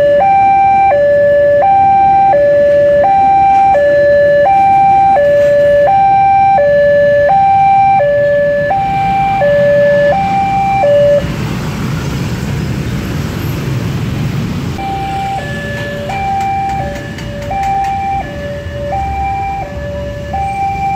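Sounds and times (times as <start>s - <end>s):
level-crossing two-note alarm: 0.0s - 11.3s, 14.8s - 20.9s
motorcycle engines rumbling: 0.0s - 20.9s.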